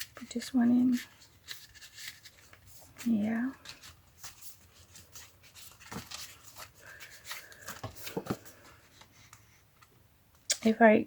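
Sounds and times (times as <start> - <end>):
paper rustling: 0.0 - 9.3.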